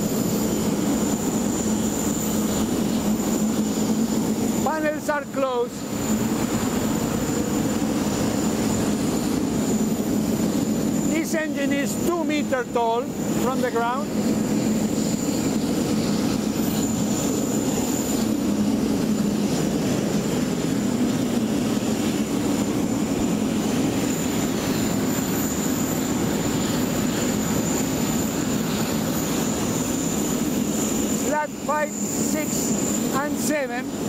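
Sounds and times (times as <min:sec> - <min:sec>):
high whine: 0:00.0 - 0:34.0
jet turbine drone: 0:00.0 - 0:34.0.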